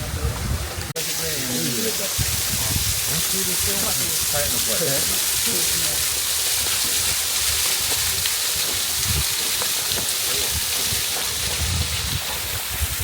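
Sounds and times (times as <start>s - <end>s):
waterfall rushing: 1.0s - 13.0s.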